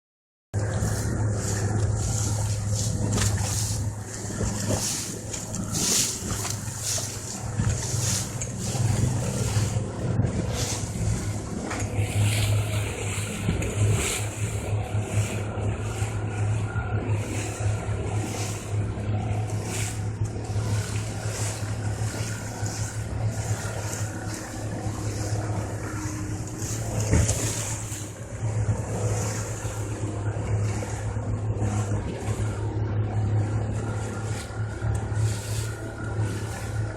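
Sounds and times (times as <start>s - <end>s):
motorboat engine humming: 0.5s - 36.9s
wind and water hiss: 0.6s - 36.9s.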